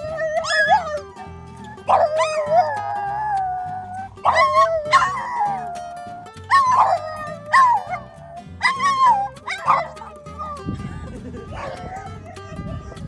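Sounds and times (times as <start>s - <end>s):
dogs howling: 0.0s - 13.0s.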